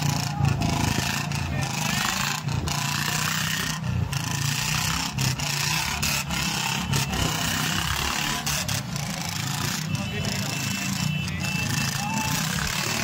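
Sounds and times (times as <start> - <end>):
motorcycle engines running: 0.0 - 13.0
road noise: 0.0 - 13.0.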